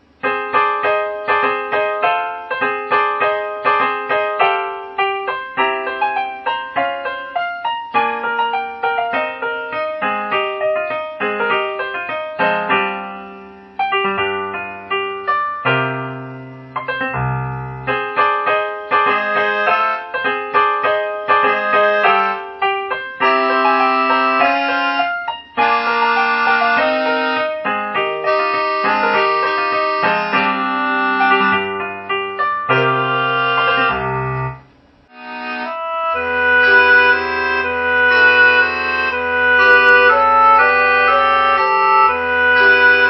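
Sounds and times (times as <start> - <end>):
keyboard piano music: 0.0 - 43.0.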